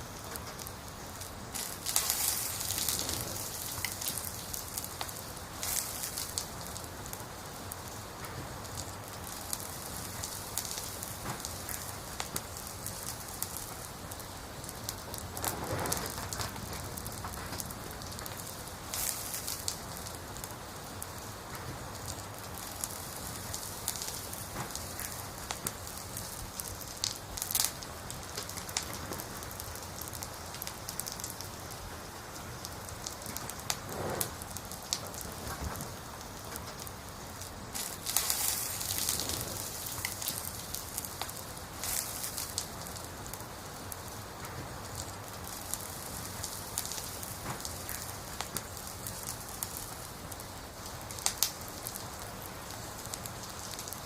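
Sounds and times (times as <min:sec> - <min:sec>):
fire crackles: 0:00.0 - 0:54.0
firewood hissing: 0:00.0 - 0:54.0
loud fire pops: 0:00.0 - 0:54.0.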